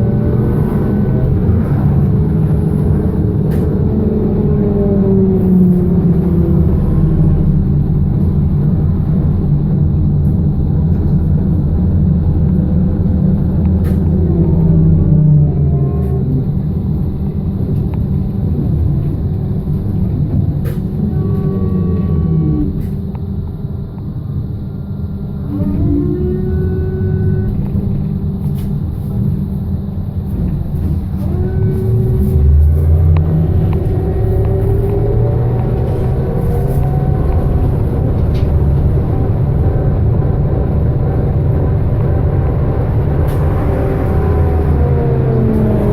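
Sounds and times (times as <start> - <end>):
bus rumble: 0.0 - 45.9.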